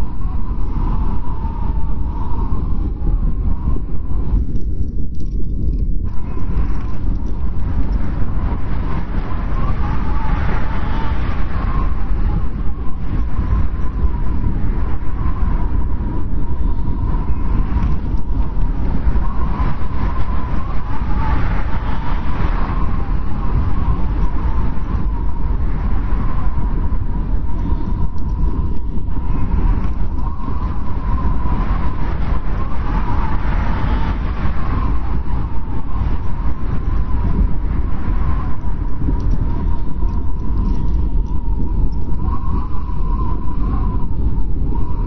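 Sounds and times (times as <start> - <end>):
blizzard wind rumbling: 0.0 - 45.0
wind whistling: 0.0 - 45.0.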